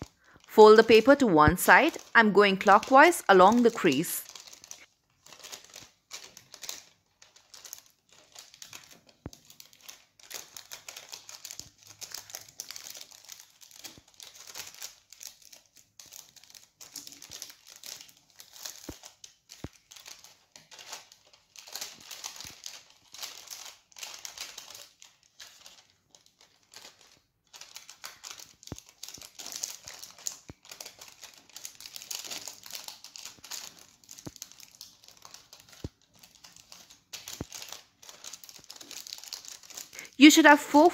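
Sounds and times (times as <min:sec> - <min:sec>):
paper crinkling and rustling: 0:00.0 - 0:40.9.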